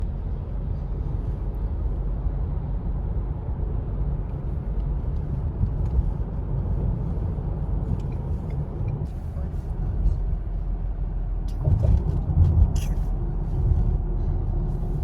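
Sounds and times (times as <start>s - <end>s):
vehicle rumble in motion: 0.0s - 15.0s.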